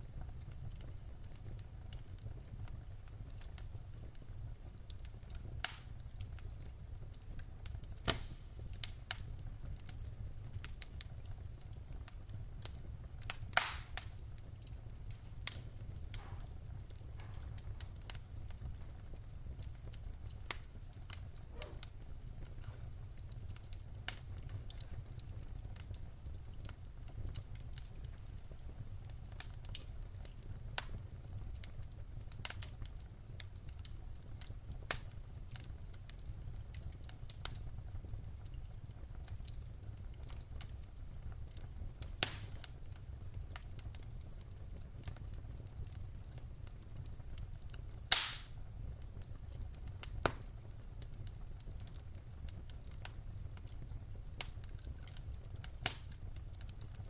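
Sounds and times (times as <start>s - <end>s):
logs crackling and popping: 0.0s - 57.0s
wood fire rumbling: 0.0s - 57.0s.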